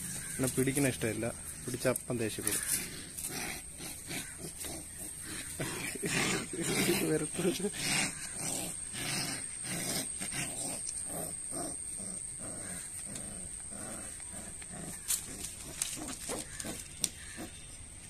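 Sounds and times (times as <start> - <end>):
puppy growling: 2.4 - 17.6.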